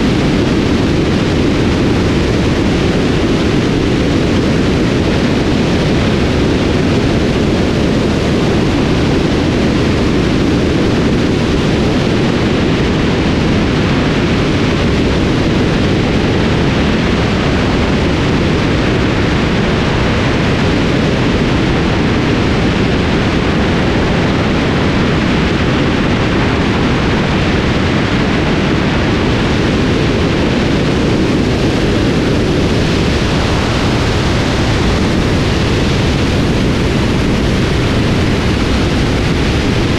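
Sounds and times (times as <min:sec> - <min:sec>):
airflow and aircraft engine roar: 0:00.0 - 0:39.9.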